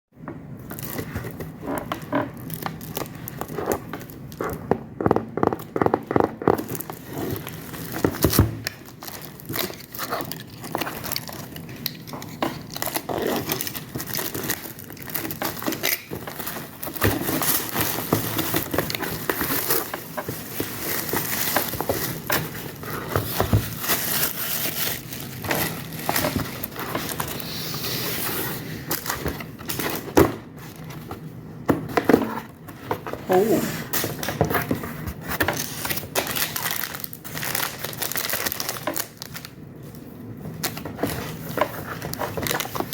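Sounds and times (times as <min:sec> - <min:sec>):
plastic packaging crinkling: 0:00.6 - 0:04.8, 0:05.4 - 0:31.4, 0:33.9 - 0:42.9.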